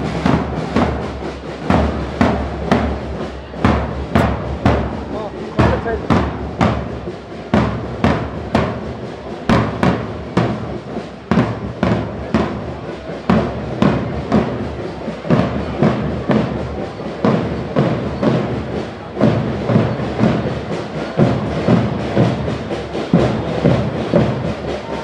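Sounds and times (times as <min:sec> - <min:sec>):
marching band drums: 0:00.0 - 0:25.0.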